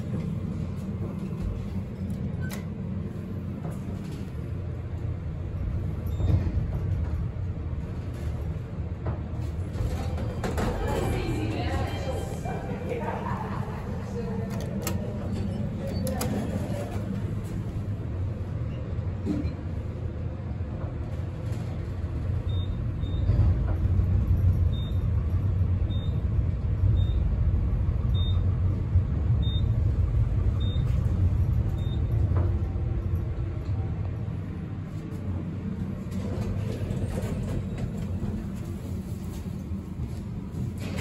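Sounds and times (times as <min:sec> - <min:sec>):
elevator rumble: 0:00.0 - 0:41.0.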